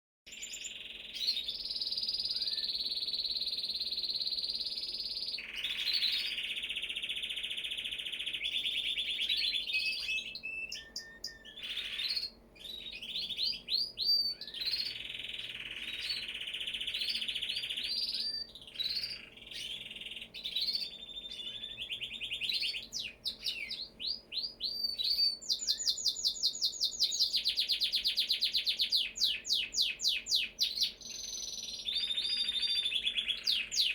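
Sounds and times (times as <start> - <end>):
canary singing trills: 0.3 - 33.9.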